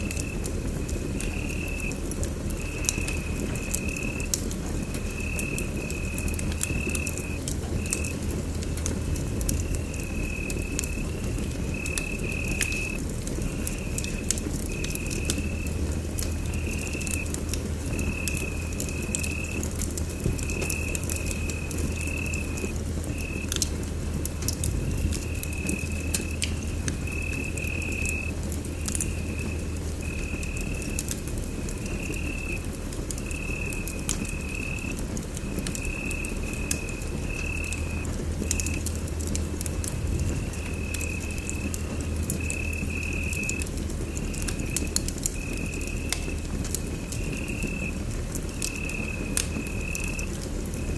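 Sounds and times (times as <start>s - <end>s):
low steady rumble: 0.0s - 50.9s
wood fire crackling: 0.0s - 50.9s.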